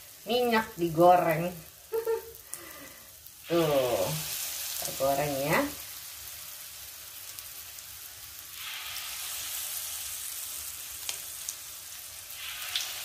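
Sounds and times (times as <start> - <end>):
shrimp sizzling in hot oil: 0.0 - 13.0.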